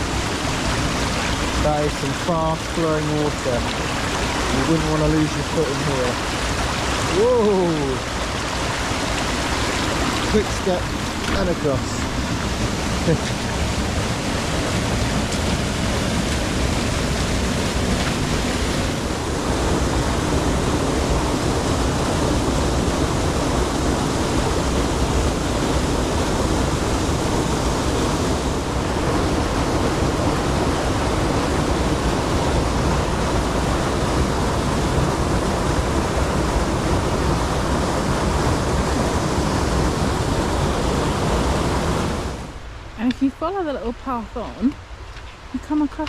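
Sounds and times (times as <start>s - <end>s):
stream rushing below waterfall: 0.0s - 46.0s.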